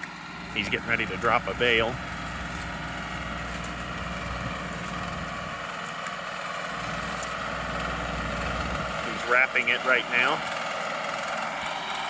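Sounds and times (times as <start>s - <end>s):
round baler wrapping bale: 0.0s - 12.0s
tractor engine running: 0.0s - 12.0s.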